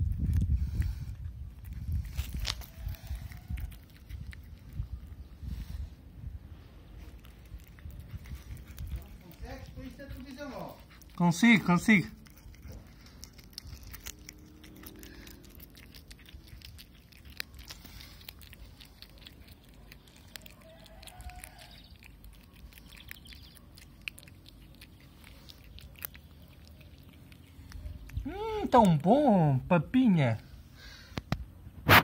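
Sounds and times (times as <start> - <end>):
cat chewing with crunching: 0.0 - 29.7.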